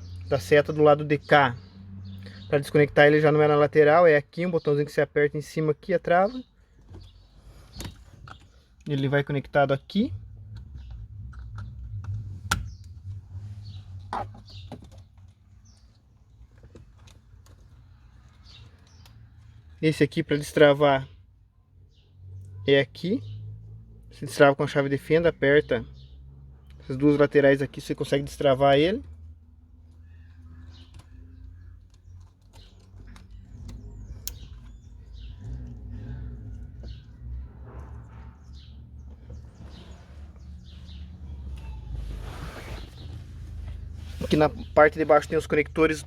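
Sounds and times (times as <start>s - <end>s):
birds chirping faintly: 0.0s - 46.0s.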